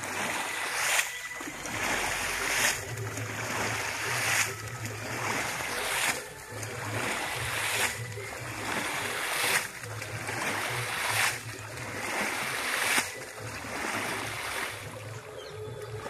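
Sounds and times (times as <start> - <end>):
water splashing from basket: 0.0 - 16.0.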